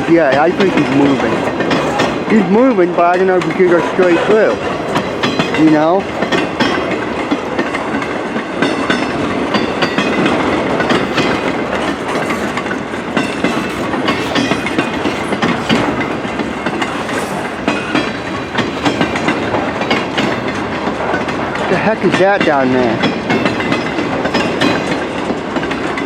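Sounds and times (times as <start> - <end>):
freight train cars rolling: 0.0 - 26.0
train wheels clacking over rail joints: 0.0 - 26.0.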